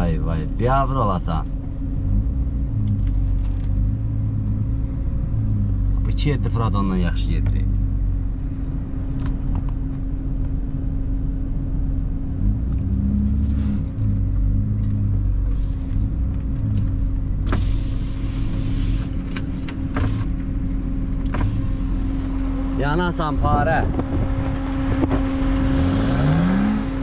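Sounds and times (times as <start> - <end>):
engine rumbling inside cabin: 0.0 - 27.0.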